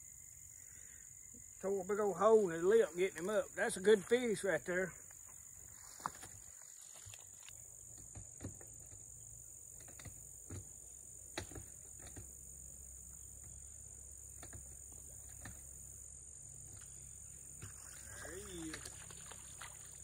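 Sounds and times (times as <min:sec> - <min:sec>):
crickets droning: 0:00.0 - 0:20.0.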